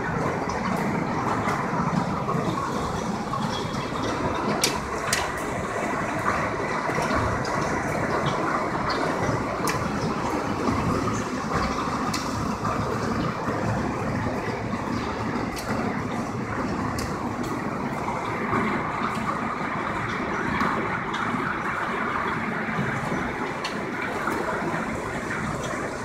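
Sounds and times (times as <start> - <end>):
hail and rain pelting: 0.0 - 26.0
hailstones ticking: 0.0 - 26.0.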